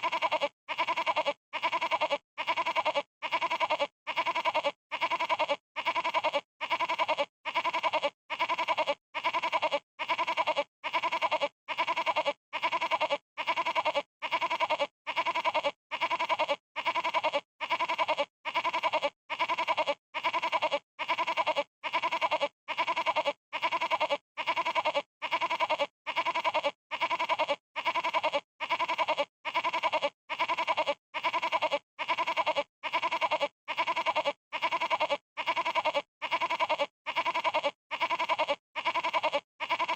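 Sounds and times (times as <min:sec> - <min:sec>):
goat bleating: 0:00.0 - 0:39.9.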